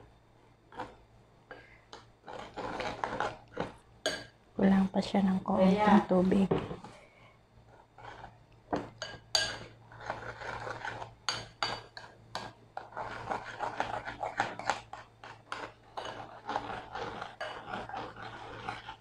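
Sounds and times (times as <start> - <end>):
spoon stirring batter in a bowl: 0.6 - 4.8, 7.6 - 19.0.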